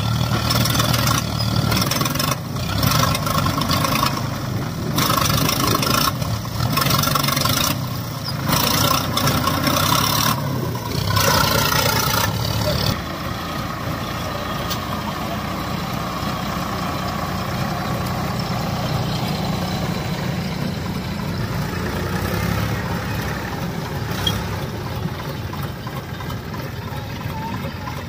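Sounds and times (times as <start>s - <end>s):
tractor diesel engines running: 0.0s - 28.0s.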